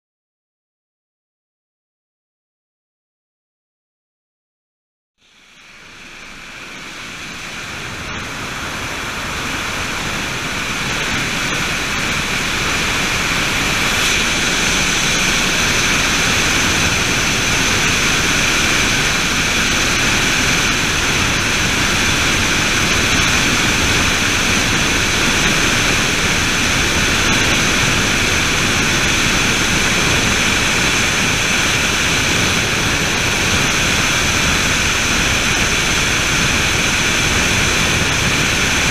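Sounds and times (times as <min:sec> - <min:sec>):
helicopter engine and rotor drone: 0:05.3 - 0:38.9
high whine: 0:05.3 - 0:38.9.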